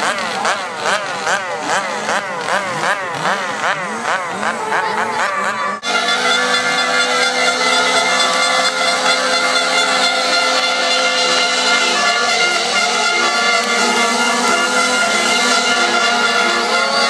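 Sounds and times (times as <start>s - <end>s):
crowd noise: 0.0s - 17.0s
long steady horn tones: 0.0s - 17.0s.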